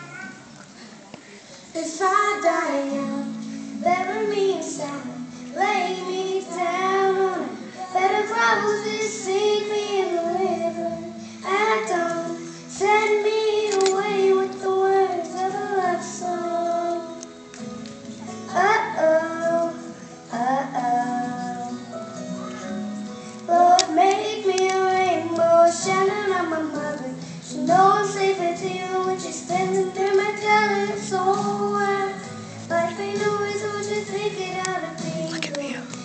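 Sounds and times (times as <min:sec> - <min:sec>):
girl singing: 0:01.7 - 0:17.4, 0:18.3 - 0:22.8, 0:23.4 - 0:36.0
musical accompaniment: 0:01.7 - 0:36.0.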